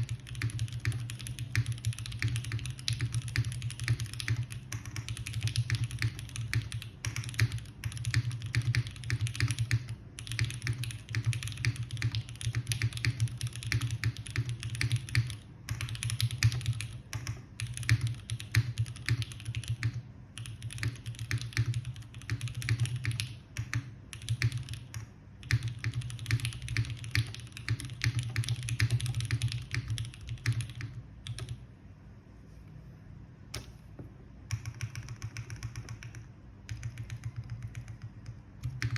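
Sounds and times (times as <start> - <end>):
mechanical keyboard typing: 0.0 - 31.6, 34.4 - 38.9.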